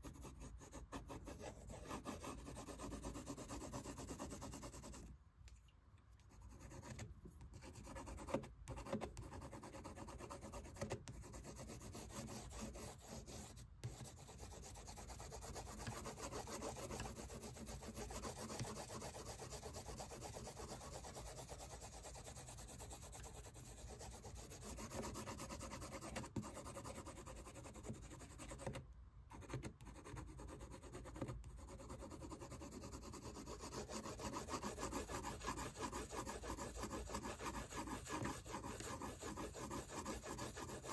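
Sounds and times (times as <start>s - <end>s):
colored pencil scratching on paper: 0.0s - 5.1s, 6.2s - 40.9s.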